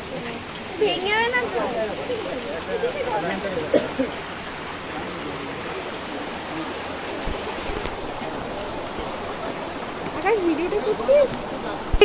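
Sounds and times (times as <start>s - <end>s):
water splashing over rocks: 0.0s - 12.0s.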